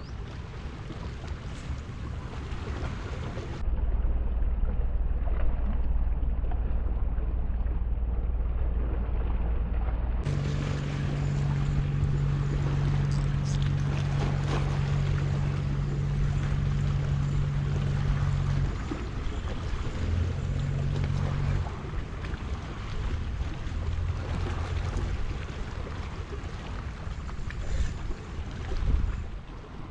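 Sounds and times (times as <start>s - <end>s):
low motor hum: 0.0s - 29.9s
wind buffeting microphone: 0.0s - 29.9s.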